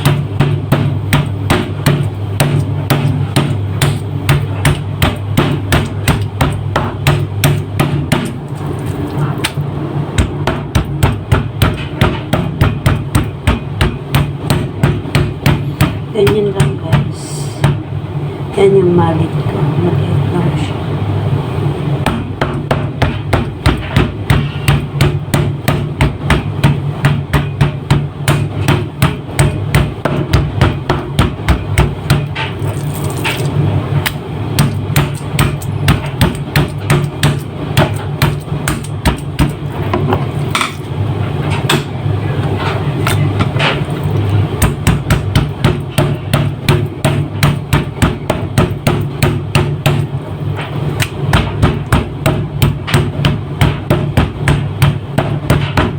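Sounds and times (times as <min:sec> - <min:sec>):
meat mallet pounding chicken: 0:00.0 - 0:18.1, 0:21.9 - 0:55.9.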